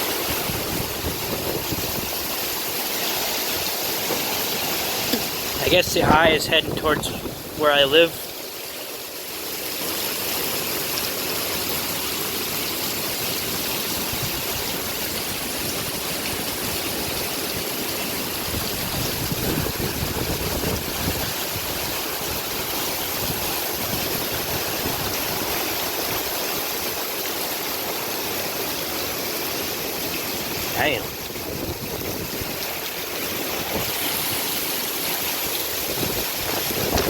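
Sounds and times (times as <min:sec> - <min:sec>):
heavy rain: 0:00.0 - 0:37.0
hurricane wind: 0:00.0 - 0:37.0.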